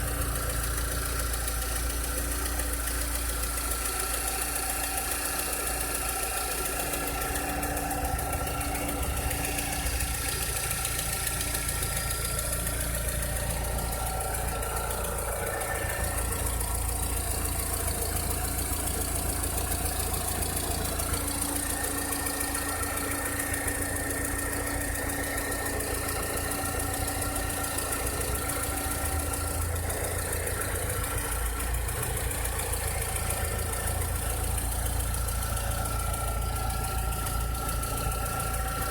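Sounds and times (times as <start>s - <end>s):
car engine idling: 0.0s - 38.9s
strange engine noise: 0.0s - 38.9s.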